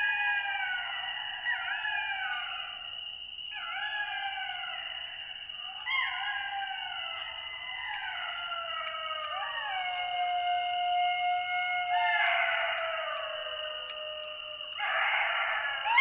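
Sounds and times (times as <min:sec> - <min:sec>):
jackals howling: 0:00.0 - 0:16.0.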